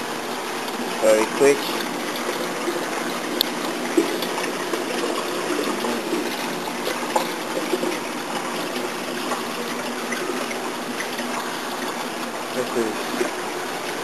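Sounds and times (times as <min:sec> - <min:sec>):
aquarium water trickling: 0:00.0 - 0:14.0.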